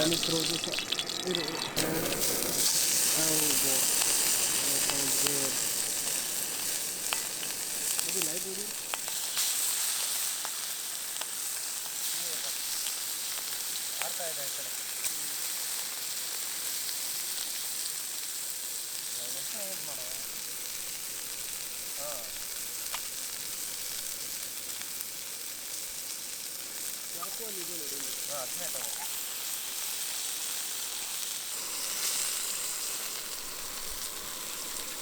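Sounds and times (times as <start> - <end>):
chicken sizzling in hot oil: 0.0 - 35.0.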